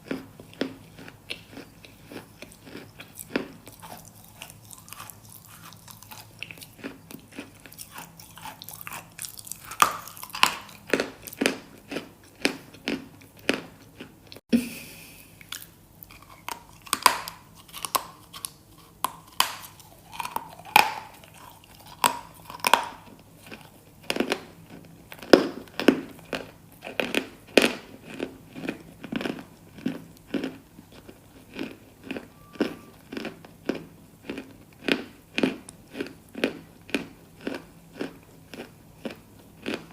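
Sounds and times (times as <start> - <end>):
crunchy food chewing: 0.0 - 14.4, 15.4 - 39.9.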